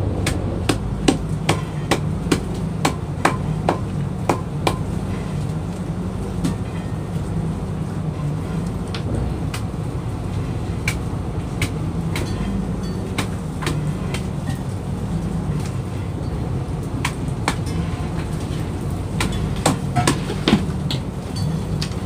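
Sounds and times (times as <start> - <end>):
boat engine and machinery drone: 0.0 - 22.0.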